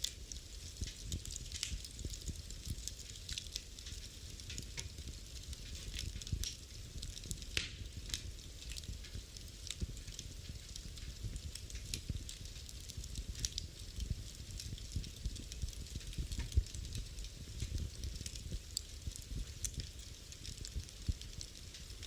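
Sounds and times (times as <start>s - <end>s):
fire low hiss and rumble: 0.0s - 22.0s
wood fire crackling and popping: 0.0s - 22.0s.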